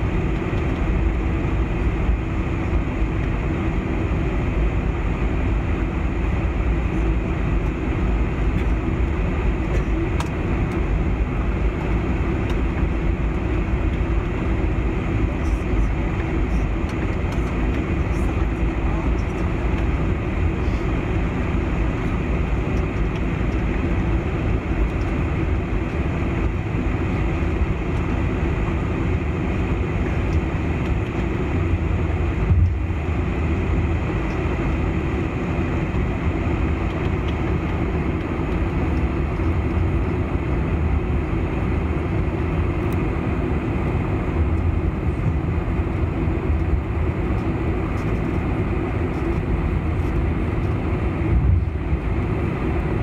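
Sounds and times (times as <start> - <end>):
airplane engines rumbling in cabin: 0.0 - 53.0.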